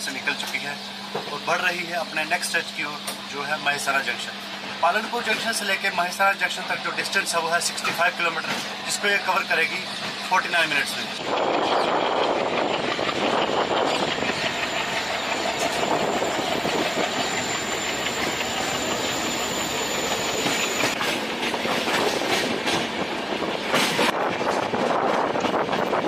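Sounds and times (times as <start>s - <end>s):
train wheels running on rails: 0.0s - 26.0s.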